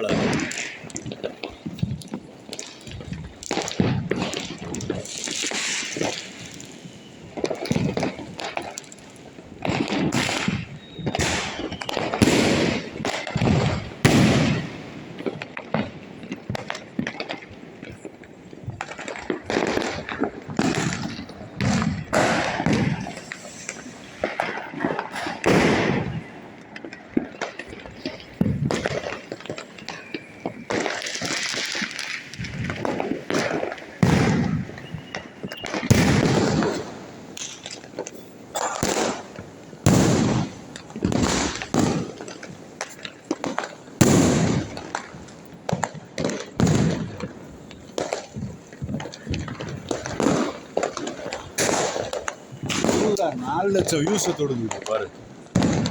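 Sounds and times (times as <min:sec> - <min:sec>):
fireworks hissing: 0:00.0 - 0:15.5, 0:16.2 - 0:55.9
firecrackers banging and popping: 0:00.0 - 0:55.9.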